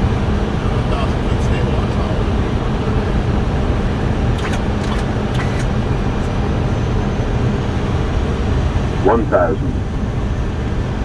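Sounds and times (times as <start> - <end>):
cockpit airflow and engine rumble: 0.0 - 11.0.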